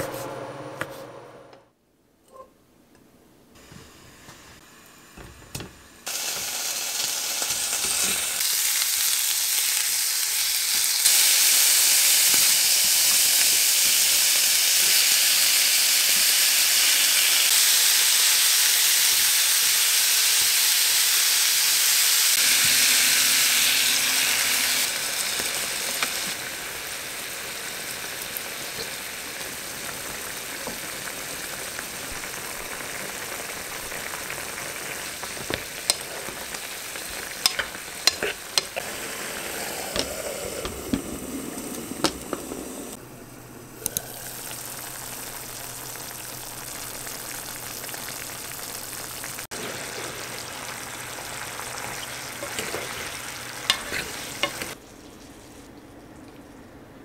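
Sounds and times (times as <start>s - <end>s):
food sizzling in a pan: 3.6s - 43.0s, 43.7s - 54.8s.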